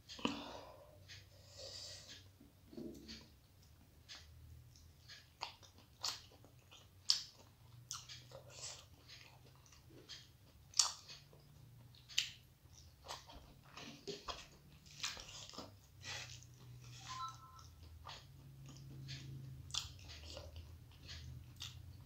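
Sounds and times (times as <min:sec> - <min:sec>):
close-up chewing: 0:04.1 - 0:22.0.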